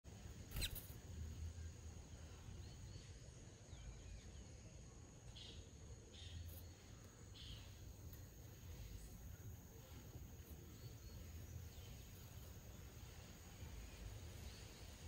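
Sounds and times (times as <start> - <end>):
small birds chirping: 0.1 - 15.0
steady high-pitched whine: 0.1 - 15.0.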